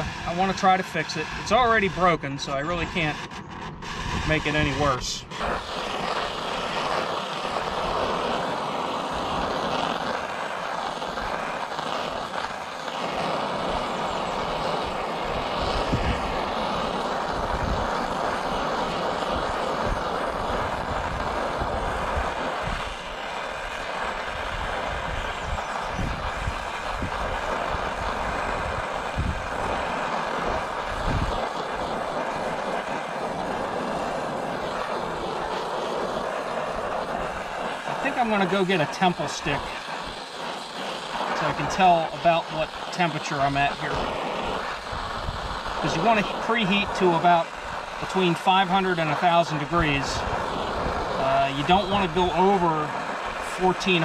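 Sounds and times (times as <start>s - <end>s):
torch flame burning: 0.0s - 54.0s.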